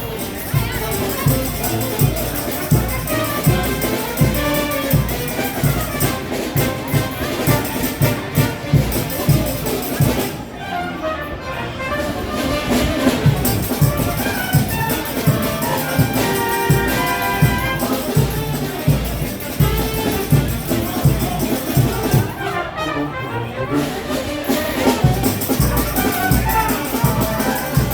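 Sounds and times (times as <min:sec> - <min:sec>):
fast drum beat: 0:00.0 - 0:10.4, 0:13.2 - 0:22.3, 0:24.8 - 0:27.9
trumpets and trombones: 0:00.0 - 0:27.9.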